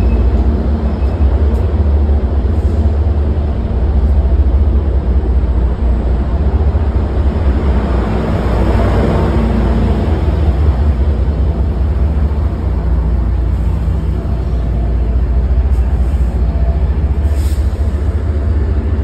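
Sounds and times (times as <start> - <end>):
diesel locomotive engine rumbling: 0.0 - 19.0.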